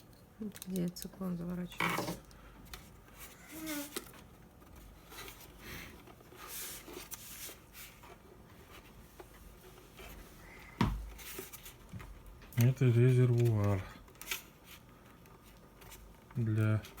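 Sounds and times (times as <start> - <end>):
rubs and rustles of plastic parts: 0.0 - 17.0.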